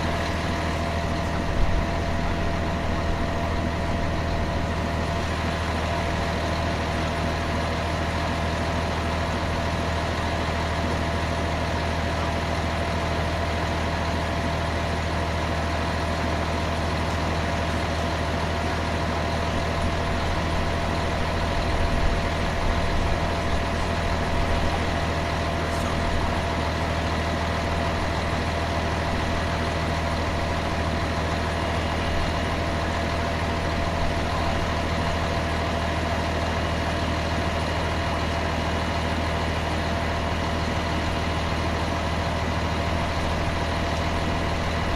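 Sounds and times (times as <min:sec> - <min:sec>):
engine idling with whine: 0:00.0 - 0:44.9.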